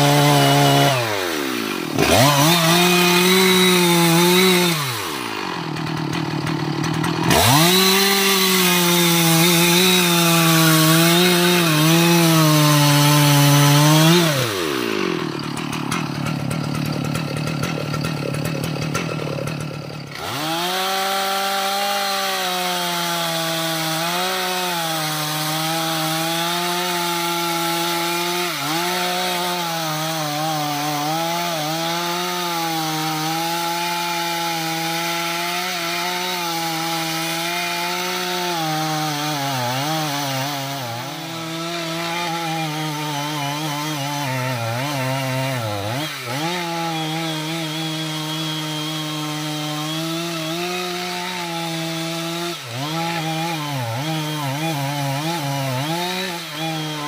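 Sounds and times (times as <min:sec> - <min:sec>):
chainsaw cutting through tree trunk: 0:00.0 - 0:57.0.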